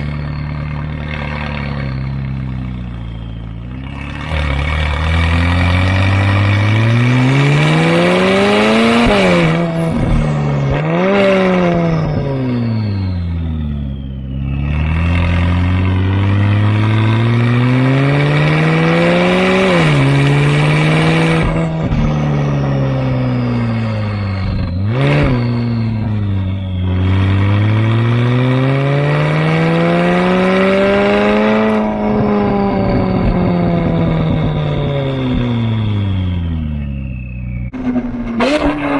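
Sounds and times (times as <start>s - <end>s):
exhaust crack: 0.0s - 38.9s
sports car engine revving: 0.0s - 38.9s.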